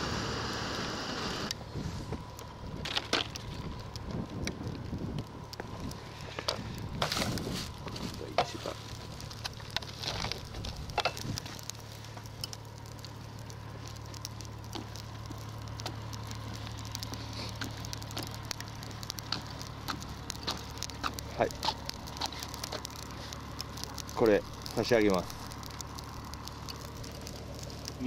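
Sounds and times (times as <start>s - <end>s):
charcoal crackling and popping: 0.0s - 28.0s
steady low hum: 0.0s - 28.0s.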